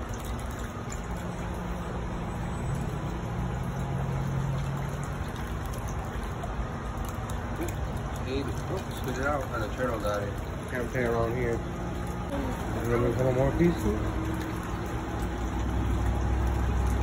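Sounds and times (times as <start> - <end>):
faint trickle of water: 0.0 - 17.0
low outdoor rumble: 0.0 - 17.0.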